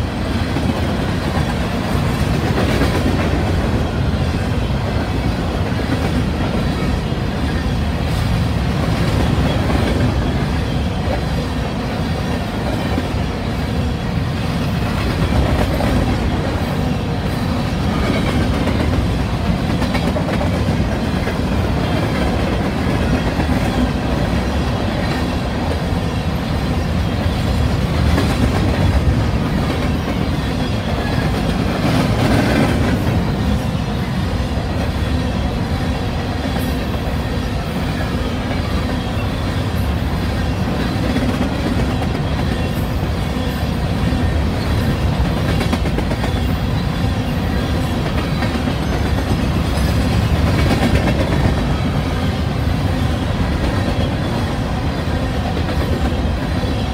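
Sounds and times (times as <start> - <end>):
steel wheels running on rails: 0.0 - 56.9.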